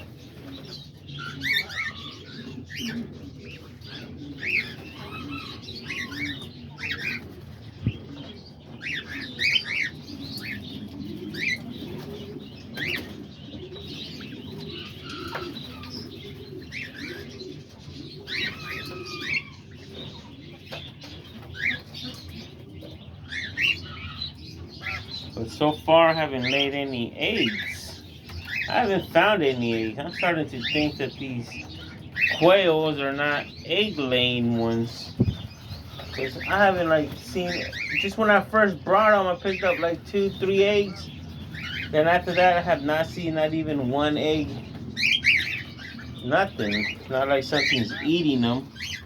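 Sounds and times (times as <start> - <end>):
doves cooing: 0.0 - 49.0
small birds chirping: 0.0 - 49.0.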